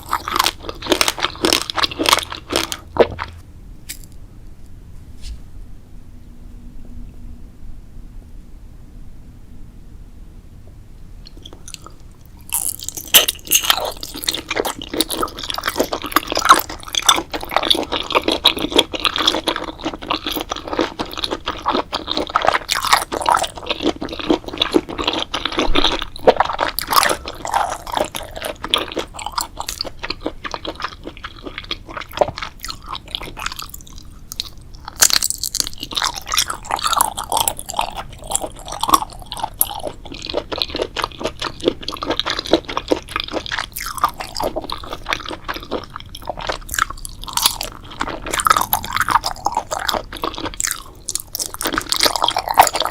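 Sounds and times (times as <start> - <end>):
person chewing crunchy food: 0.0 - 4.2, 11.2 - 52.9.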